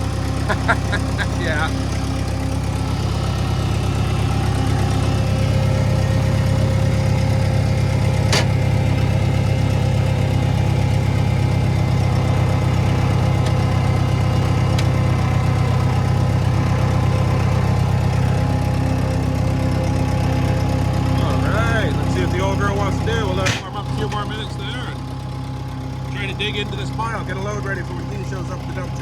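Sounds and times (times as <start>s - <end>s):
loader engine idling: 0.0s - 29.0s.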